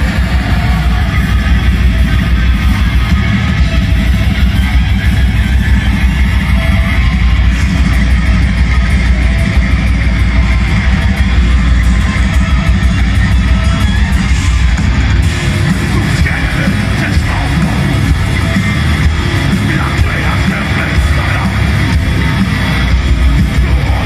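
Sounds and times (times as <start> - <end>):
distorted electric guitars and bass: 0.0 - 24.0.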